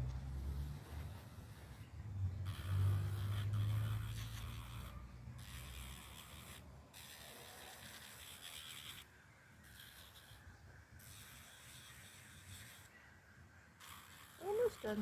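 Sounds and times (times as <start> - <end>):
electric nail grinder grinding: 0.0 - 13.0, 13.7 - 15.0.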